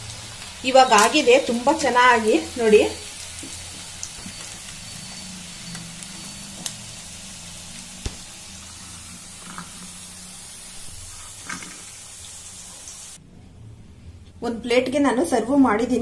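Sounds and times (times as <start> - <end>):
chicken deep-frying in oil: 0.0 - 13.2.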